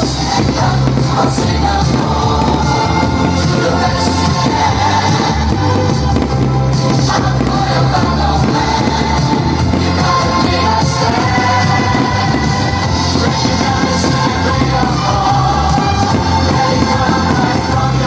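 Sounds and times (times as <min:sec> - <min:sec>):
loud music with bass line: 0:00.0 - 0:18.0
person singing: 0:00.0 - 0:18.0.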